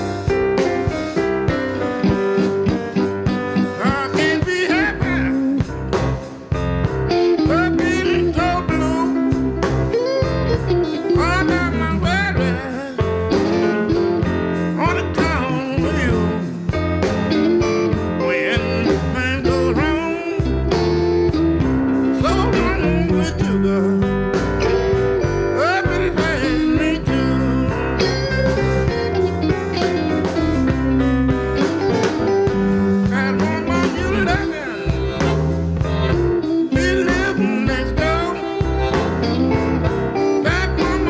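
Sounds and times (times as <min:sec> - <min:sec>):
electric blues band playing: 0:00.0 - 0:41.0
lead guitar bent notes: 0:00.0 - 0:41.0.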